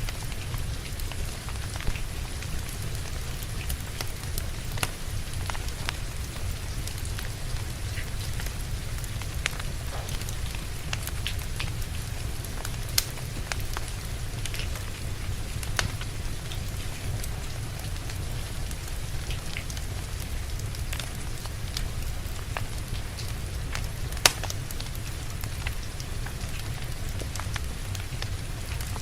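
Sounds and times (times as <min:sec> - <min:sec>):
rain falling: 0:00.0 - 0:29.0
wood fire crackling and popping: 0:00.0 - 0:29.0.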